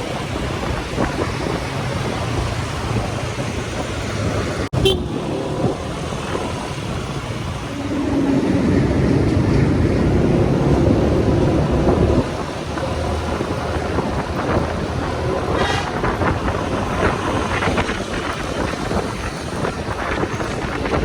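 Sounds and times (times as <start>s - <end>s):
motorcycle engine: 0.0s - 21.0s
wind and road noise: 0.0s - 21.0s.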